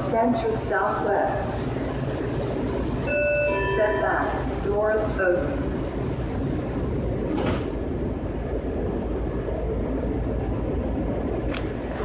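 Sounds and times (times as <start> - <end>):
subway car rumbling on rails: 0.0 - 12.0.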